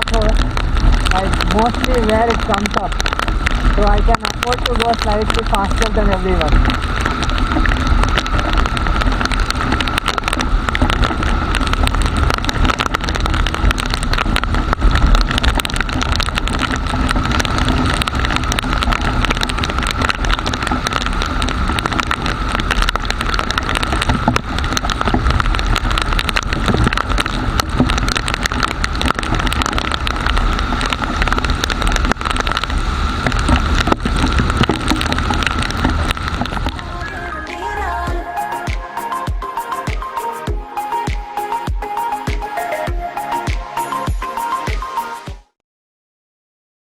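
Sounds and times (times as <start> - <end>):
thin steady whine: 0.0 - 27.8, 32.1 - 45.5
raindrops hitting camera case: 0.0 - 45.6.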